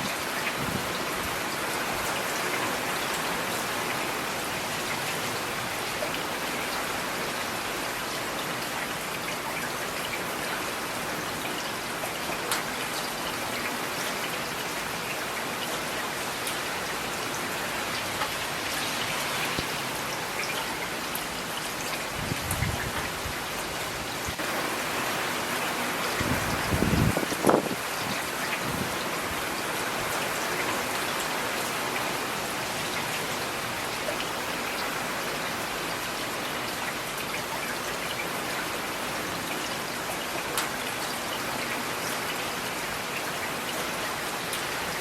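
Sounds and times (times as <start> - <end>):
rain on hard surfaces: 0.0 - 45.0.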